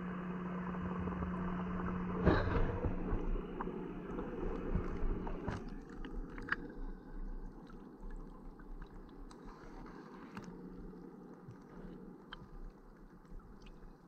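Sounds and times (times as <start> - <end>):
muffled underwater water noise: 0.0 - 14.0
water lapping: 1.0 - 14.0.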